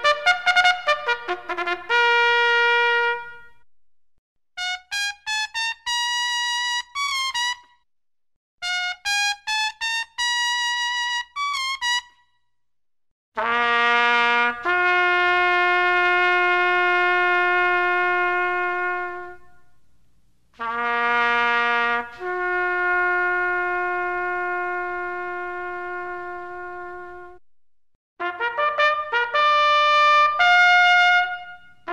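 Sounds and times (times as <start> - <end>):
solo trumpet: 0.0 - 3.6, 4.6 - 7.8, 8.6 - 12.2, 13.4 - 19.9, 20.5 - 27.4, 28.2 - 31.9.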